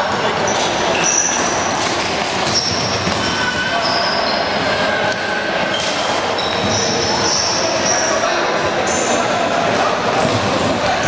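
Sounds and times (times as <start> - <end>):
echoing din of play: 0.0 - 11.0
shoes squeaking on hall floor: 0.0 - 11.0.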